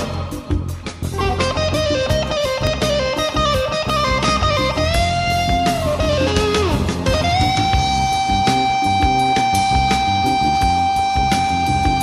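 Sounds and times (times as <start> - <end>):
bass: 0.0 - 12.0
electric guitar lead: 0.0 - 12.0
steady beat: 0.0 - 12.0.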